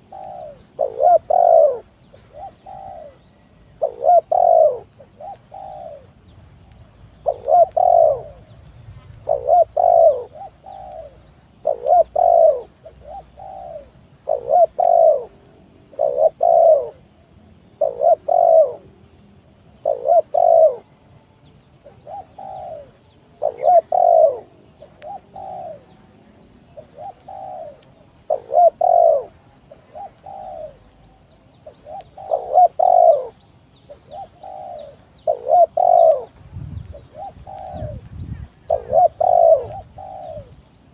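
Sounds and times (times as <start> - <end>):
dove cooing: 0.0 - 6.2, 7.2 - 8.5, 9.2 - 18.9, 19.7 - 21.0, 21.8 - 26.0, 26.7 - 40.8.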